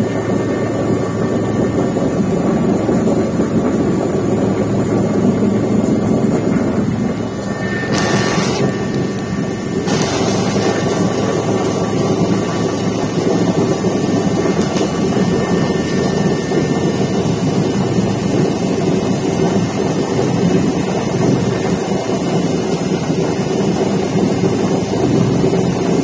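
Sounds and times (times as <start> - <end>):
faint constant hum: 0.0 - 26.0
helicopter engine and rotor drone: 0.0 - 26.0.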